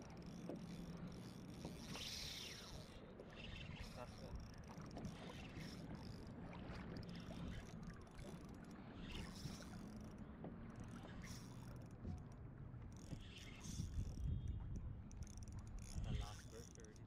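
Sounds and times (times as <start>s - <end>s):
water lapping against kayak hull: 0.0s - 17.0s.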